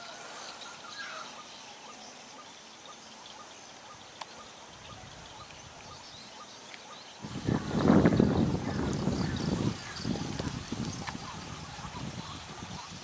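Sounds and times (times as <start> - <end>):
insect calls: 0.0 - 13.0
steady hiss: 0.0 - 13.0.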